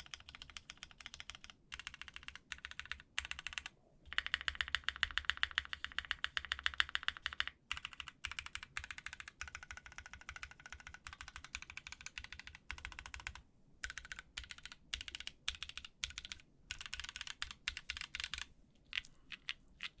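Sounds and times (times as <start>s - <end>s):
mechanical keyboard typing: 0.0s - 20.0s.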